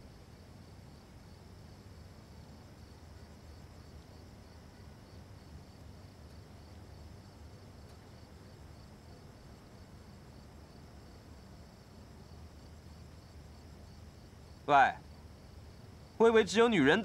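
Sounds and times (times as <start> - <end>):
crickets chirping: 0.0 - 17.0
low background hum: 0.0 - 17.0.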